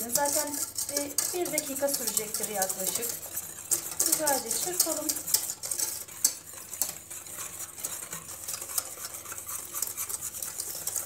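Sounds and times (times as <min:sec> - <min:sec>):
metal whisk clinking in a pot: 0:00.0 - 0:11.0.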